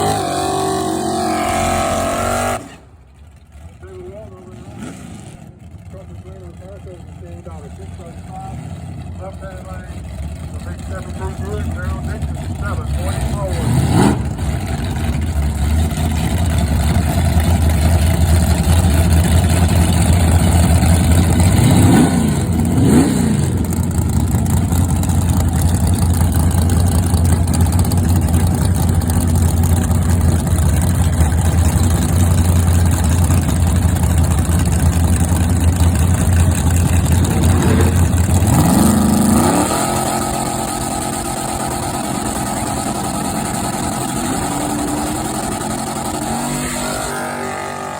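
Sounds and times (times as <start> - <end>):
race car engine idling and revving: 0.0 - 47.9.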